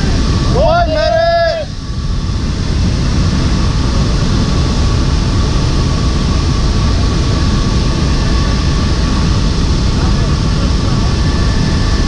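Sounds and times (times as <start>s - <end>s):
aircraft engine rumble: 0.0s - 12.0s.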